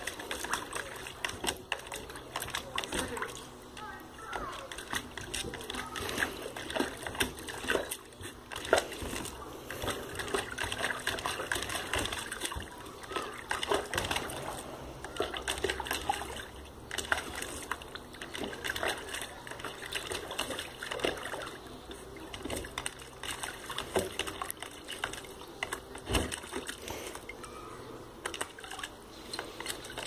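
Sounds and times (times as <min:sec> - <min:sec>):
dog splashing water in tub: 0:00.0 - 0:27.3, 0:28.2 - 0:30.0.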